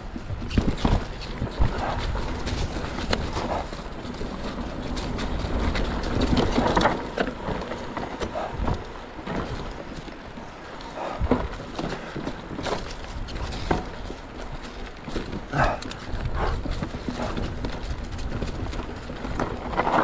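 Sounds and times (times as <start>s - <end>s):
bike clicks and rattles: 0.0s - 20.0s
bike tyres crunching on dirt: 0.0s - 20.0s.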